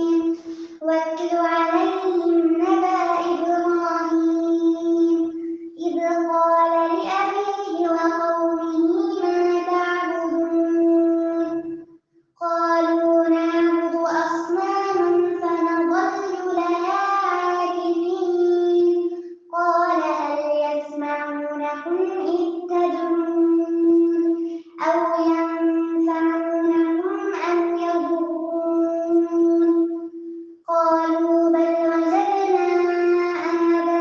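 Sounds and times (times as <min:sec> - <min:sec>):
woman reciting melodically: 0:00.0 - 0:34.0.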